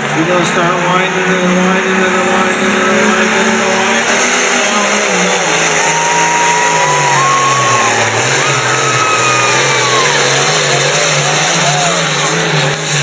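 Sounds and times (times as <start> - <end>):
diesel tractor engine at high revs: 0.0 - 13.0.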